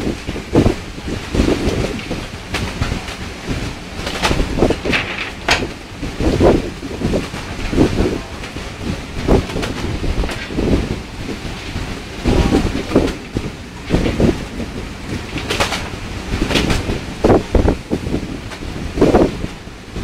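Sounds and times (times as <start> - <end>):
rush of sea and ship noise: 0.0 - 20.0
wind buffeting microphone: 0.0 - 20.0.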